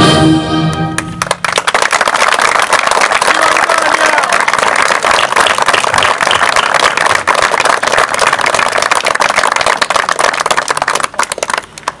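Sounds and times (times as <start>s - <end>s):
crowd applauding: 0.7s - 12.0s.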